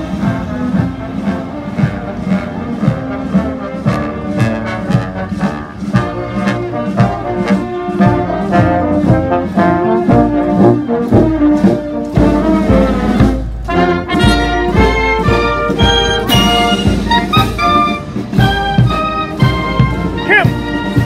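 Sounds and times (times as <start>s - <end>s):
brass instruments over a beat: 0.0s - 21.0s.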